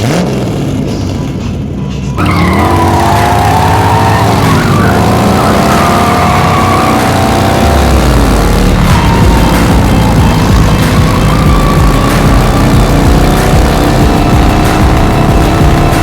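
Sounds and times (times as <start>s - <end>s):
race car engines revving: 0.0s - 16.0s
tyre squeal: 2.2s - 16.0s.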